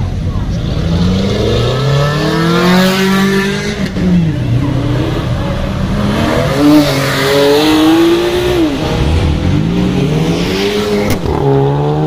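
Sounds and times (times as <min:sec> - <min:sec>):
car engines accelerating: 0:00.0 - 0:12.0.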